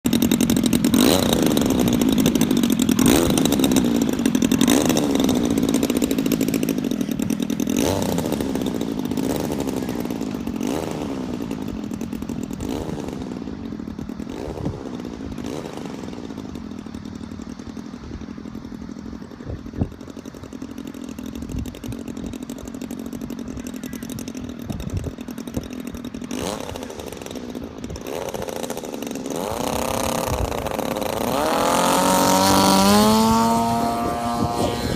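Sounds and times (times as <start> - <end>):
model plane engine running: 0.0 - 34.9.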